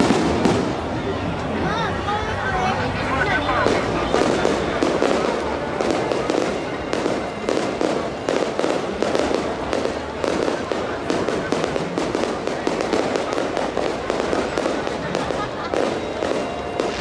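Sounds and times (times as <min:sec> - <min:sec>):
fireworks bangs and crackles: 0:00.0 - 0:02.0, 0:03.0 - 0:17.0.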